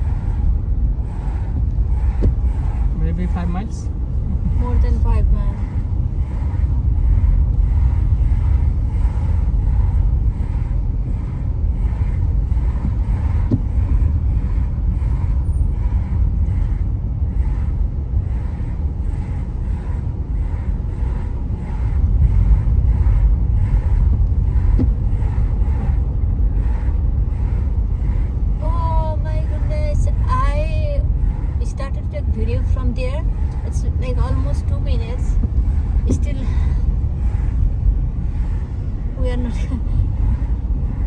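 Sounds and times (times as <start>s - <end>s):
car road and engine rumble: 0.0s - 41.0s
faint pulsing: 0.0s - 41.0s.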